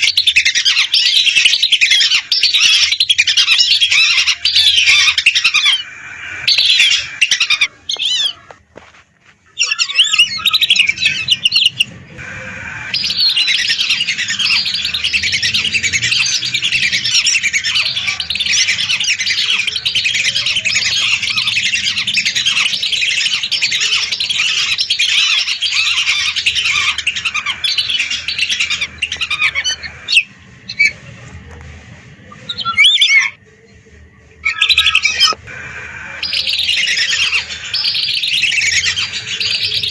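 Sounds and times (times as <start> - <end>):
whistling ducks calling: 0.0 - 8.6, 9.5 - 31.3, 32.2 - 33.4, 34.3 - 39.9.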